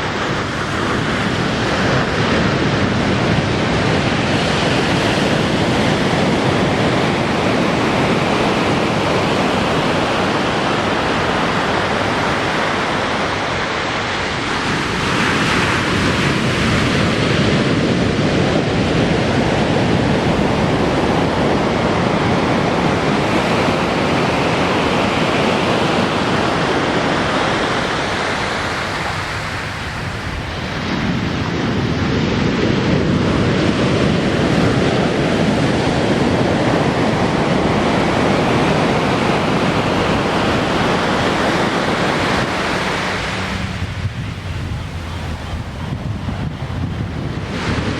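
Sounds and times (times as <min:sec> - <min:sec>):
ocean waves breaking on beach: 0:00.0 - 0:47.9
wind on microphone: 0:00.0 - 0:47.9.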